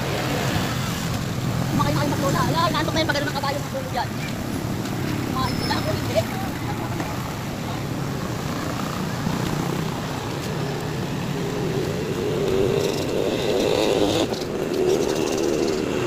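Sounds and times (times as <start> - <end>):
street noise: 0.0 - 16.0.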